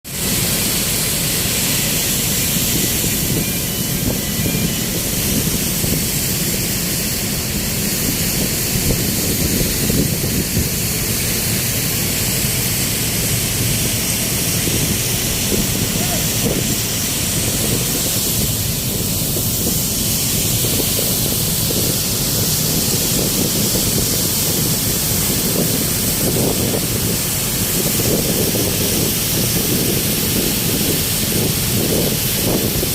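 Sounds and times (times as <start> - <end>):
loading equipment hissing: 0.1 - 32.9.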